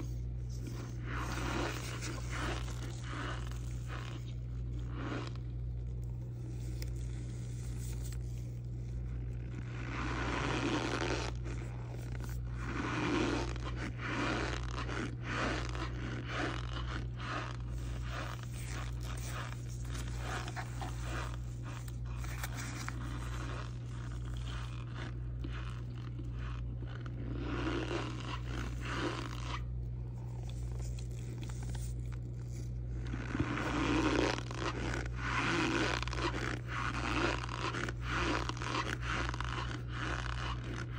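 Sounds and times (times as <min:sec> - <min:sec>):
plastic spoon scraping powder: 0:00.0 - 0:40.9
steady low hum: 0:00.0 - 0:40.9.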